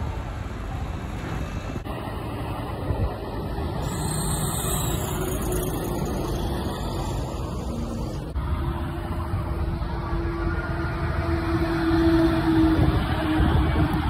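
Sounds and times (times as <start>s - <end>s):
tyre and road noise: 0.0s - 14.0s.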